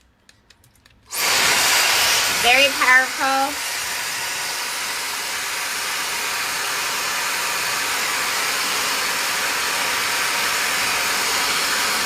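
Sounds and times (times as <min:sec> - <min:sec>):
hair dryer blowing air: 0:01.1 - 0:12.0.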